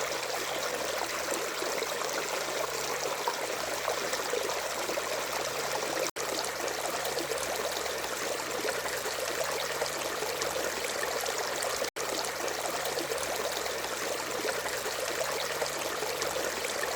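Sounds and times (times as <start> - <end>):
stream of water trickling: 0.0 - 16.9.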